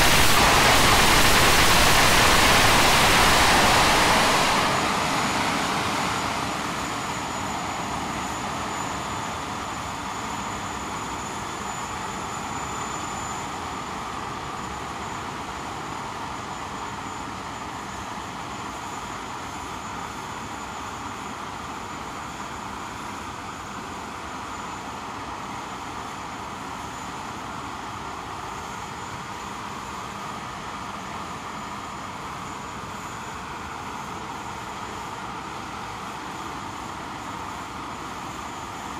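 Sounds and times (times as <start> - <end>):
high-pitched turbine whine: 0.0 - 38.9
jet engines running: 0.0 - 38.9.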